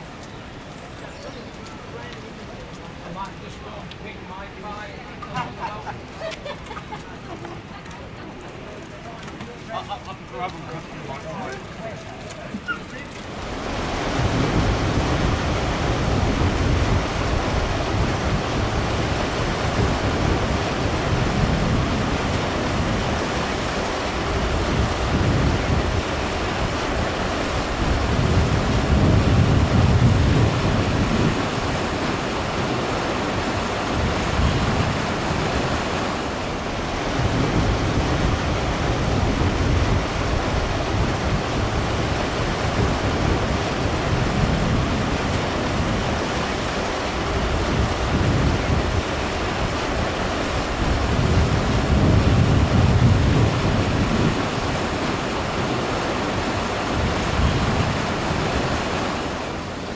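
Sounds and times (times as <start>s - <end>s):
wind buffeting microphone: 4.8s - 59.9s.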